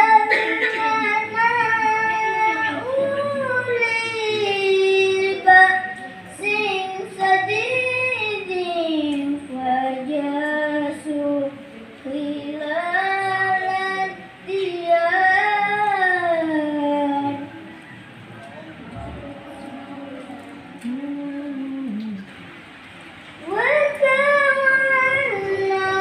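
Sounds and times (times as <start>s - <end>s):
boy reciting melodically: 0.0s - 17.8s, 18.9s - 22.4s, 23.4s - 26.0s.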